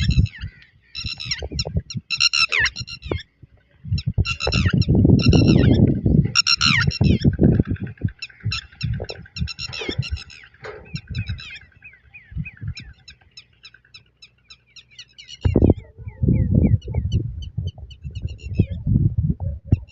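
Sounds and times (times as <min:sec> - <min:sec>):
chicks peeping: 0:00.0 - 0:19.9
low rumbling noise: 0:00.0 - 0:19.9.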